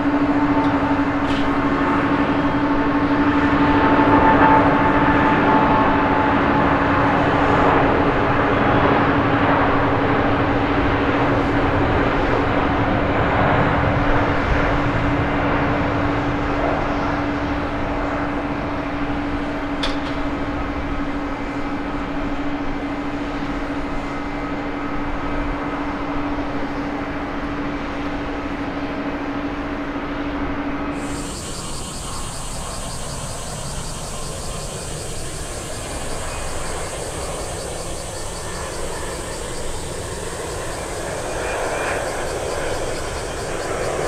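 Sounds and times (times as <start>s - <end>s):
jet engines hissing on approach: 0.0s - 44.0s
jet engines roaring at takeoff: 0.0s - 44.0s.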